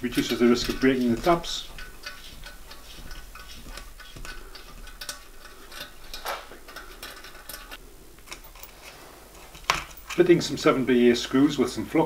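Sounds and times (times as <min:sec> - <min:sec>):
small metallic clicks: 0:00.0 - 0:10.4.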